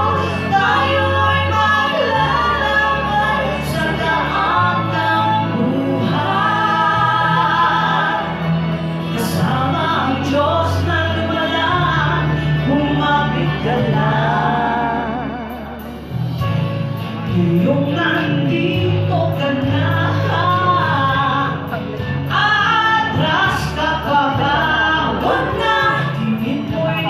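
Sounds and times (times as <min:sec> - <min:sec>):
two women singing a duet: 0:00.0 - 0:16.5, 0:17.2 - 0:27.0.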